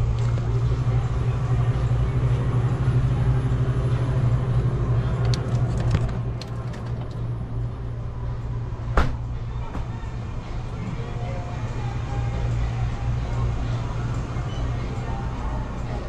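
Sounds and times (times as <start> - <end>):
drink coolers humming: 0.0 - 16.0.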